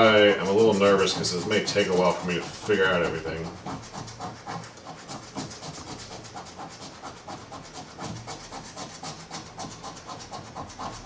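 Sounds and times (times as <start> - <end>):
coin scraping scratch card: 0.0 - 11.0.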